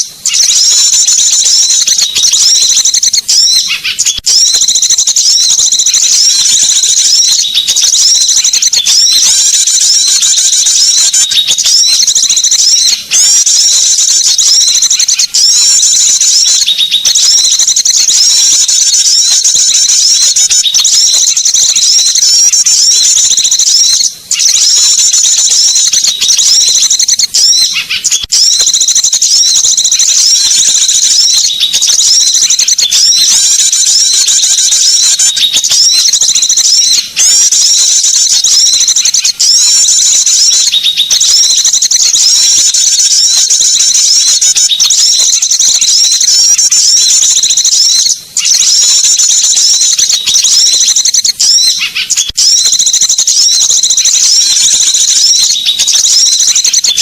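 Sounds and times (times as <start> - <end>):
small songbirds chirping and trilling: 0.0 - 57.0.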